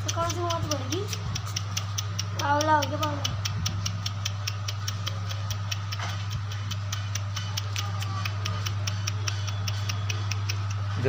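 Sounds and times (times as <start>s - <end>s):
fast even ticking: 0.0s - 11.0s
steady low hum: 0.0s - 11.0s.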